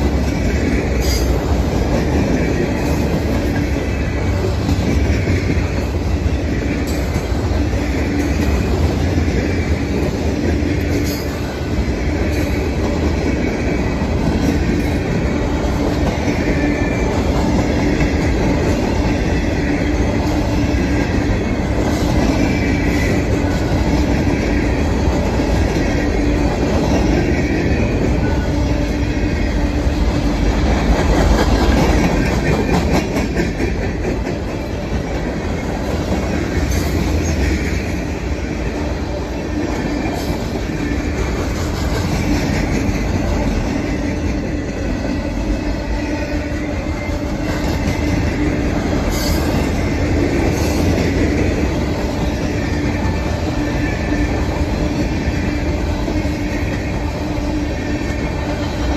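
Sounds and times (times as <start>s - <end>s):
clickety-clack over rail joints: 0.0s - 58.9s
train wheels rumbling on rails: 0.0s - 58.9s.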